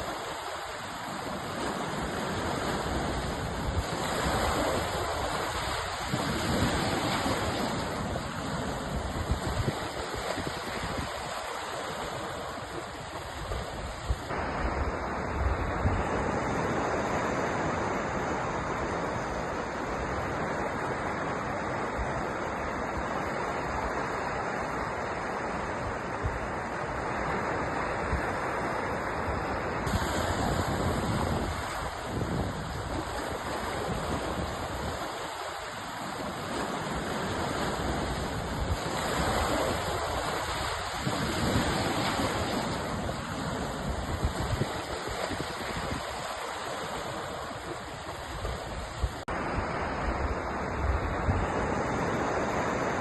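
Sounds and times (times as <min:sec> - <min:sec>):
sea waves breaking: 0:00.0 - 0:53.0.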